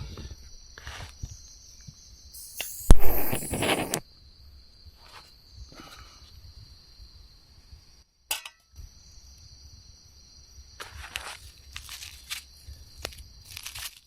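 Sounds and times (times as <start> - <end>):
high insect drone: 0.0 - 7.8, 8.8 - 13.5.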